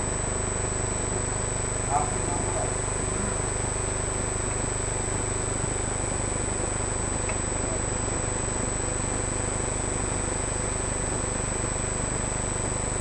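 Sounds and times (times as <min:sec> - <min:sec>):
electrical hum and hiss: 0:00.0 - 0:13.0
high-pitched whine: 0:00.0 - 0:13.0.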